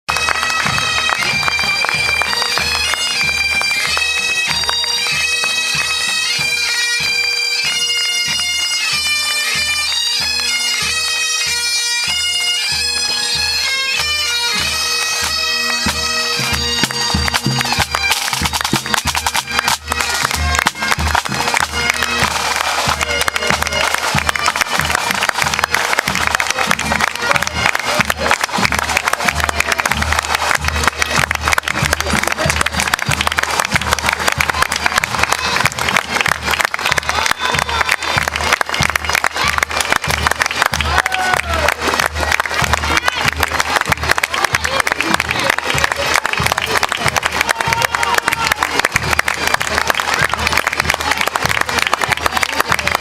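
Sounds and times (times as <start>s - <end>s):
people clapping: 0.0s - 53.0s
bagpipes playing a tune: 0.1s - 53.0s
drum beating: 0.1s - 53.0s.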